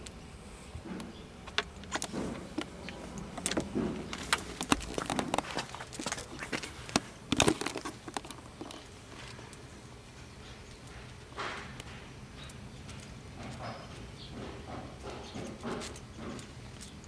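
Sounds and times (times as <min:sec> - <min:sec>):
dog claws tapping on concrete: 0:00.9 - 0:09.6, 0:10.8 - 0:17.0.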